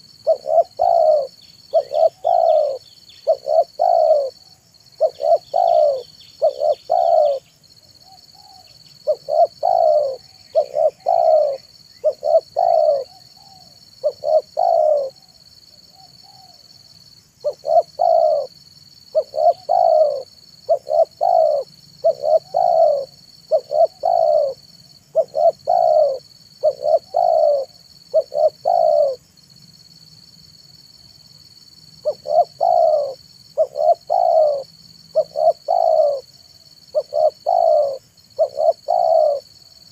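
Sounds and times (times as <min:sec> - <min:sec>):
dove cooing: 0:00.0 - 0:16.6, 0:17.4 - 0:29.2, 0:32.0 - 0:39.5.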